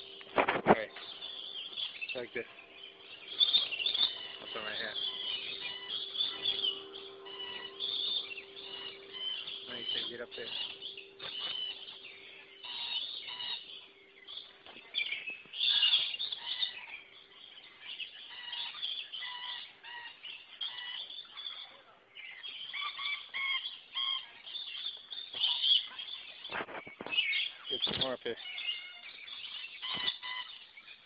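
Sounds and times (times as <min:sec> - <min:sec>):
parrots chattering and screeching: 0:02.9 - 0:11.9, 0:12.6 - 0:30.7.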